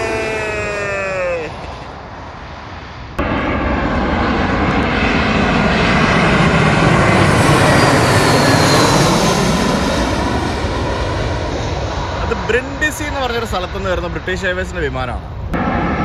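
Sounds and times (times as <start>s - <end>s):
high jet whine: 0.0s - 16.0s
jet airliner passing overhead: 0.0s - 16.0s.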